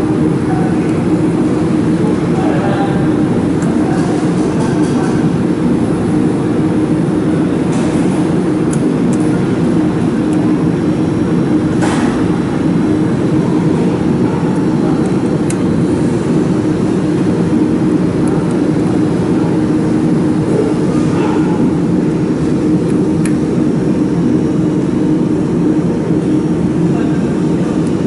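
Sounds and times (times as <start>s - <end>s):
loud machine hum: 0.0s - 28.0s.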